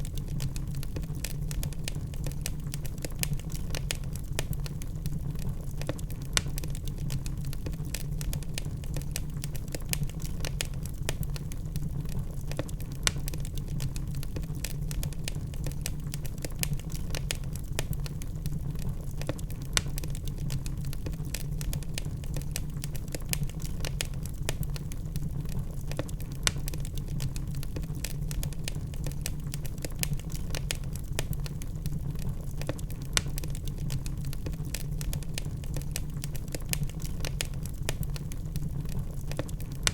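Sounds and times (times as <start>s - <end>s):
logs burning in a fireplace: 0.0s - 39.9s.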